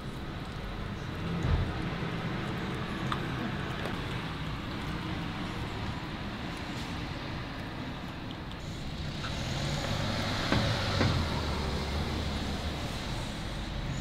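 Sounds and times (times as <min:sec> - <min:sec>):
distant road traffic rumble: 0:00.0 - 0:14.0.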